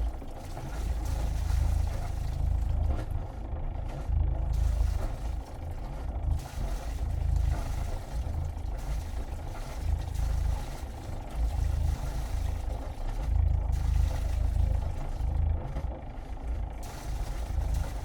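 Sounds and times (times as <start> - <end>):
diesel engine rumbling: 0.0 - 18.0
exhaust splattering water: 0.0 - 18.0.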